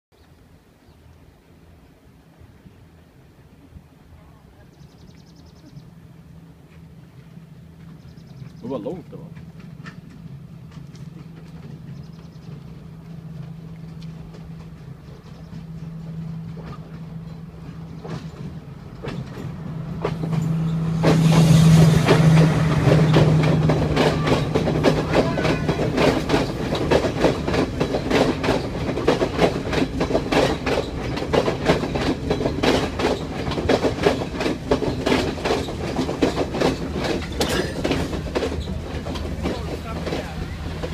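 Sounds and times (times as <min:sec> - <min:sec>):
diesel train engine hum: 0:00.3 - 0:40.9
train wheels clattering over joints: 0:06.6 - 0:40.9.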